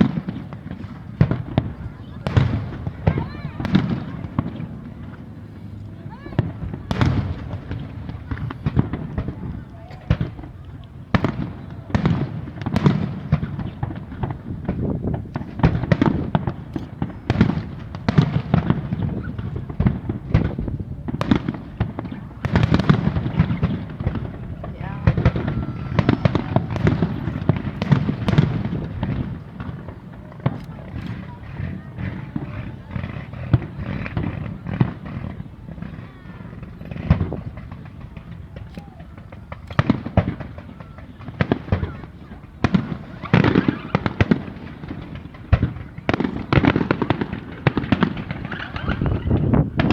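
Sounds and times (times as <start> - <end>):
fireworks bangs: 0.0 - 49.9
fireworks crackling: 0.0 - 49.9.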